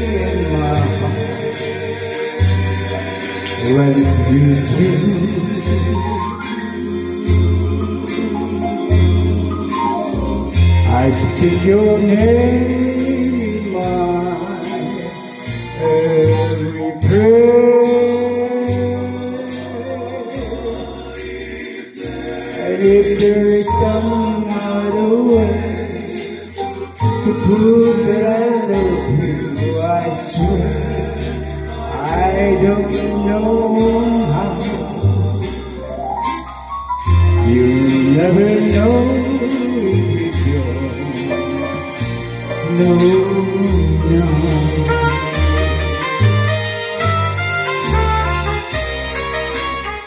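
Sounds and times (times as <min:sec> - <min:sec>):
man singing into a microphone: 0:00.0 - 0:01.6, 0:03.5 - 0:21.3, 0:22.5 - 0:35.9, 0:37.3 - 0:46.4
instrumental backing music: 0:00.0 - 0:50.0.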